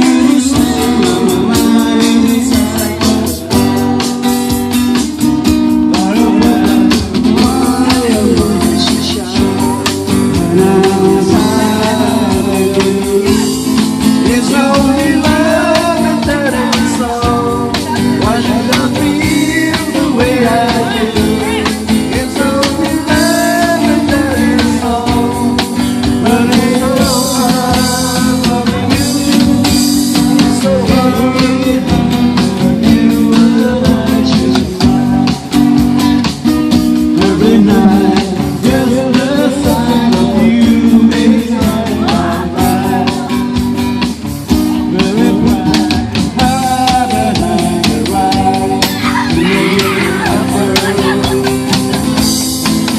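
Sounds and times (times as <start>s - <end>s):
person singing: 0.0s - 4.0s, 5.9s - 43.8s, 44.8s - 52.6s
rock music with guitar: 0.0s - 52.9s.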